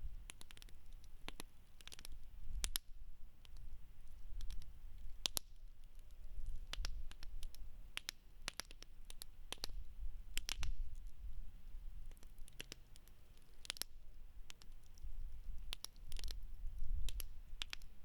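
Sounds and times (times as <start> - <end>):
campfire pops and crackles: 0.2 - 11.2, 12.0 - 18.0.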